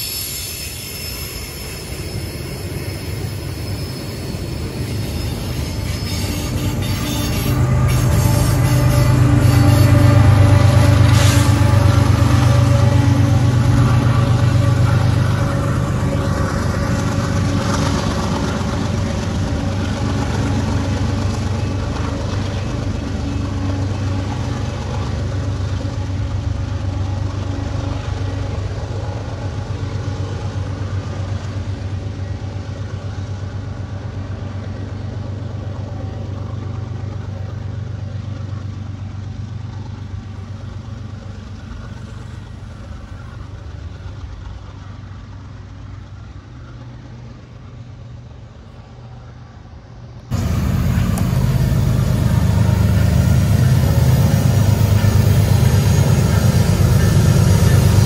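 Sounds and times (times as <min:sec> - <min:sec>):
diesel locomotive engine humming: 0:00.0 - 0:58.0
rolling train noise: 0:00.0 - 0:58.0.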